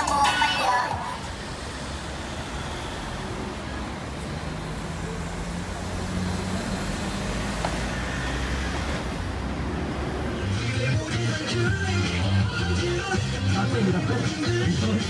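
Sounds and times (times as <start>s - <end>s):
road traffic noise: 0.0s - 15.0s
vehicle engine hum: 0.0s - 15.0s.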